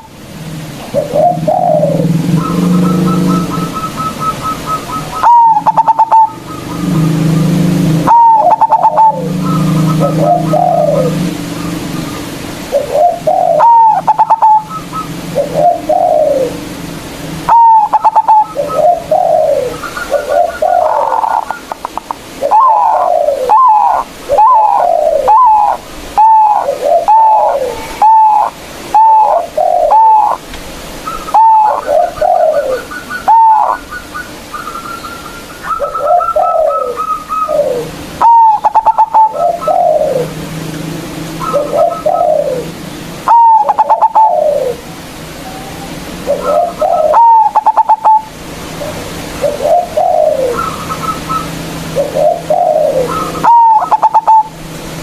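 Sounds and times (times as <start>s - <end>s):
dove singing: 0.0s - 55.0s.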